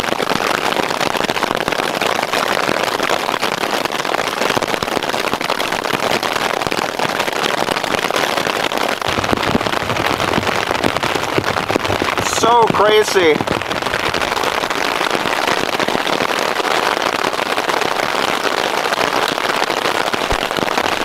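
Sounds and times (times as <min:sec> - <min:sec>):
hail and rain on tarp: 0:00.0 - 0:21.0.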